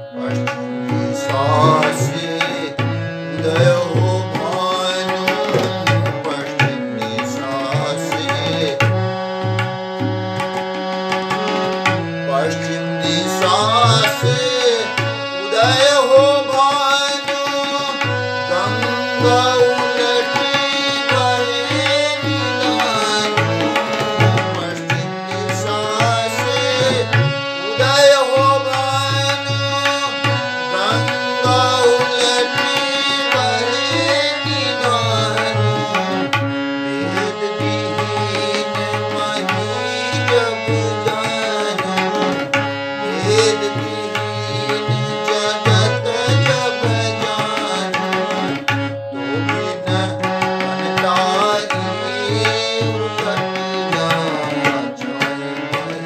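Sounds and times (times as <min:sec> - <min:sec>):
harmonium playing: 0:00.0 - 0:56.0
tabla playing rhythm: 0:00.0 - 0:56.0.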